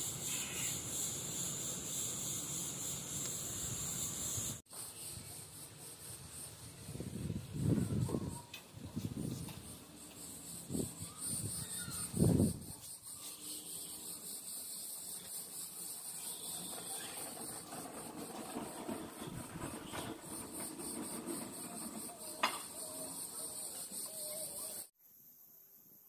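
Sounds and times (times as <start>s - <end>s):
cicadas chirring: 0.0s - 25.7s.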